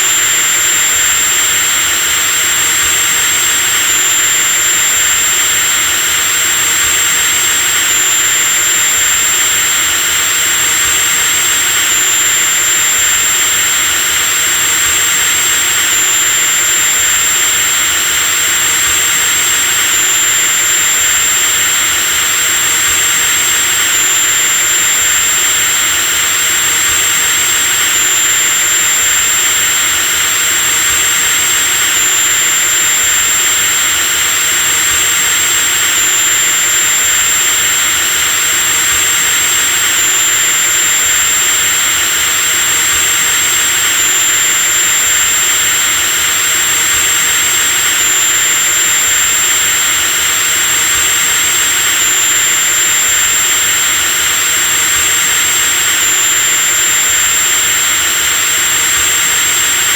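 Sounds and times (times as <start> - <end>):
electric drill motor whining: 0.0 - 59.9.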